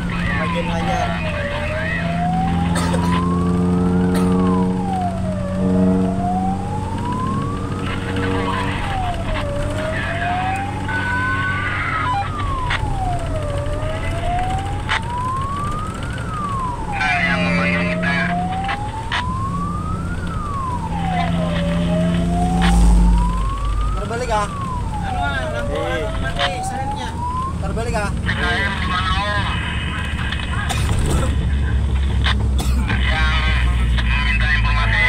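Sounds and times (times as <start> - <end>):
siren wailing: 0.0 - 30.5.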